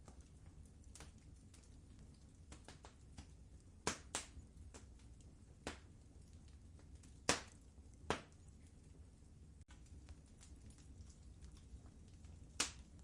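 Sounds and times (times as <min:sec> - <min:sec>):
wood fire sharp pops: 0:00.0 - 0:08.7, 0:09.6 - 0:13.0
low rumble of burning fire: 0:00.0 - 0:13.0.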